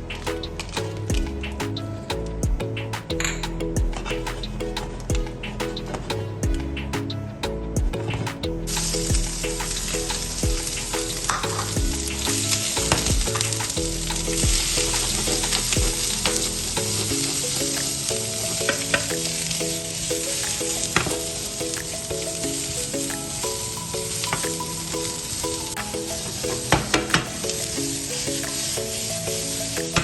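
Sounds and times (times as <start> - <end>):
background music: 0.0 - 30.0.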